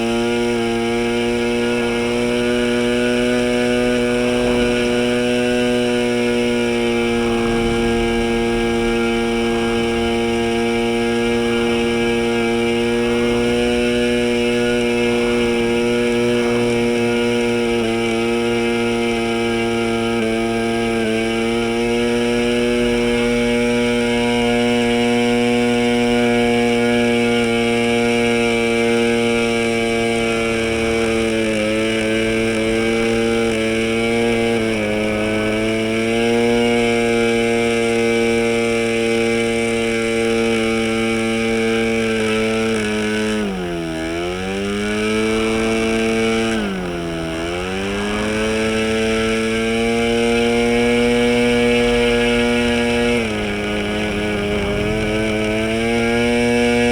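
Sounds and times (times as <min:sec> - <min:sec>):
model engine high buzz: 0:00.0 - 0:56.9.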